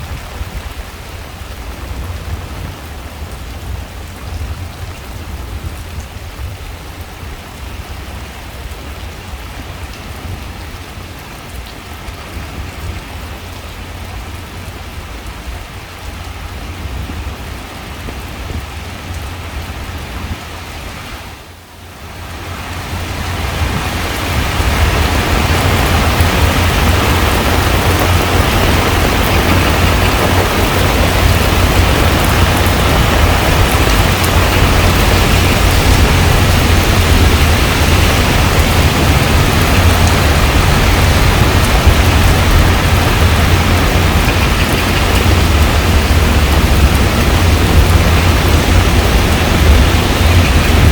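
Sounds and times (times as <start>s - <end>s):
heavy rain on pond: 0.0s - 50.9s.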